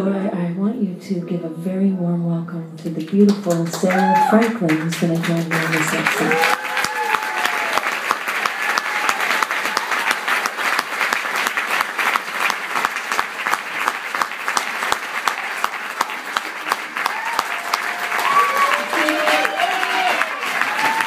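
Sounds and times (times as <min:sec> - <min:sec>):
audience applauding: 0:03.3 - 0:21.0.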